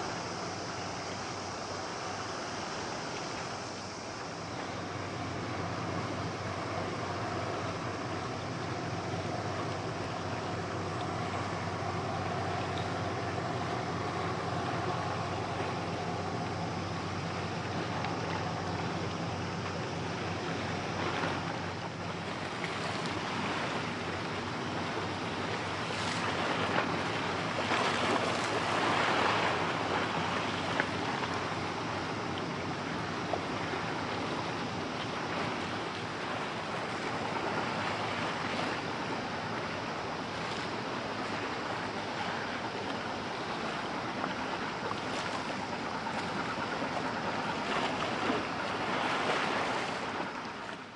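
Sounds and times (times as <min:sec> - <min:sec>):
bow wave splashing: 0:00.0 - 0:50.9
choppy sea: 0:00.0 - 0:50.9
motor boat engine droning: 0:00.0 - 0:50.9.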